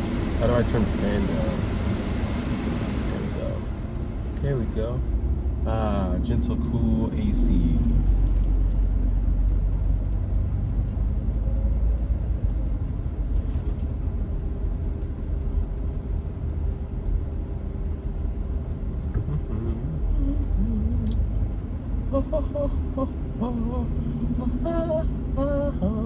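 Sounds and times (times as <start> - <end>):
air-conditioning fan: 0.0 - 26.0
low rumble inside car: 0.0 - 26.0.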